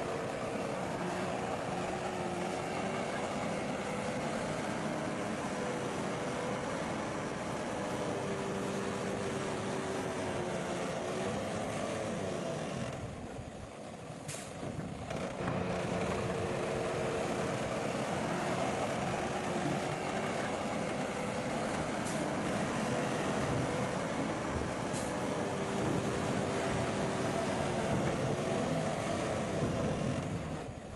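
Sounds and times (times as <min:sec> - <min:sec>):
bulldozer diesel engine running: 0:00.0 - 0:30.9.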